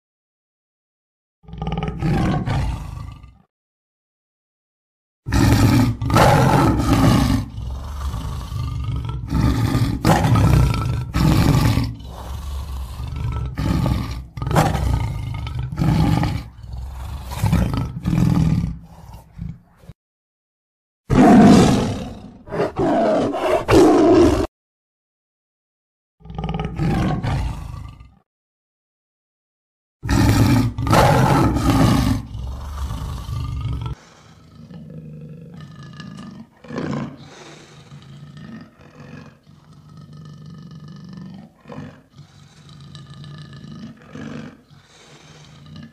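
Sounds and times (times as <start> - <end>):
lion roaring and grunting: 1.5 - 3.5, 5.3 - 20.0, 21.1 - 24.5, 26.2 - 28.2, 30.0 - 45.9.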